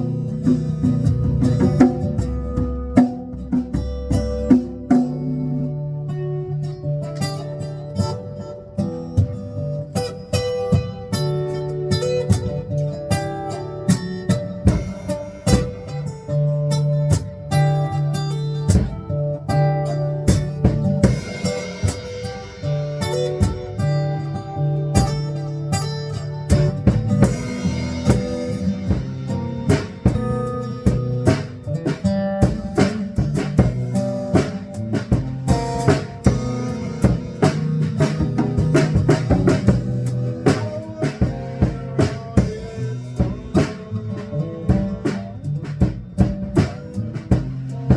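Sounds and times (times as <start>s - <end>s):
drum kit beat: 0.0s - 5.8s, 7.2s - 47.9s
bass notes: 0.0s - 47.9s
guitar: 0.0s - 47.9s.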